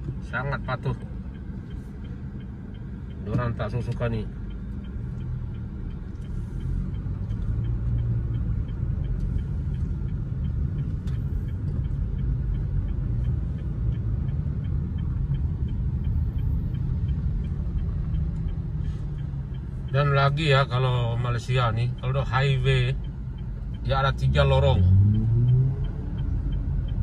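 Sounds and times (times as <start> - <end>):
car engine and tyre rumble: 0.0 - 27.0
faint even ticking: 0.2 - 27.0.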